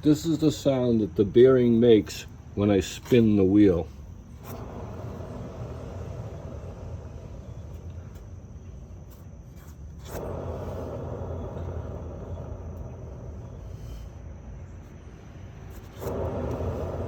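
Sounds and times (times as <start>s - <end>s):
wheel bearing rumbling: 2.8s - 17.0s.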